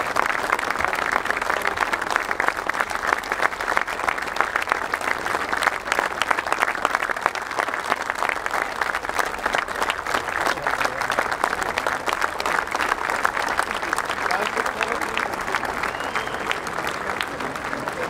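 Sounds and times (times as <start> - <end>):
large crowd applauding: 0.0 - 18.0.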